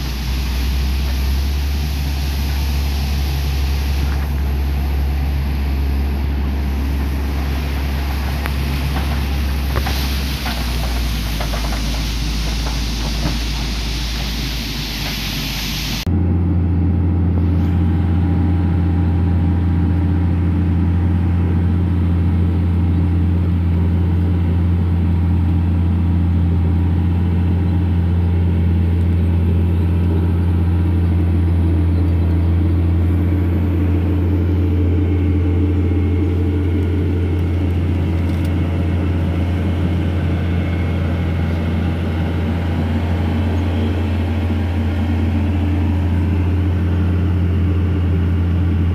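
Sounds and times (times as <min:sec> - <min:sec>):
tractor diesel engine drone: 0:00.0 - 0:48.9.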